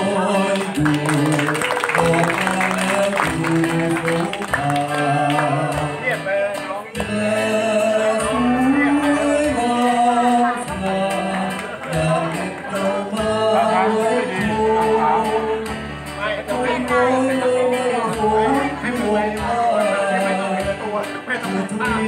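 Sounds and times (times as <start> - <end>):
amplified backing music: 0.0 - 22.0
man singing into a microphone: 0.0 - 22.0.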